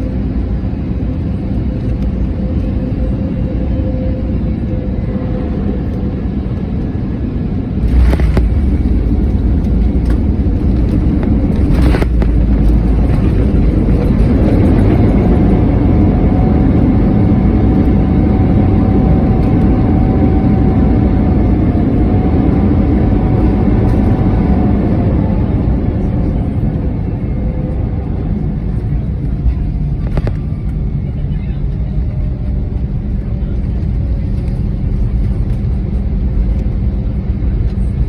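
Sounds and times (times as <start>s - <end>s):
jet engine whine: 0.0s - 38.0s.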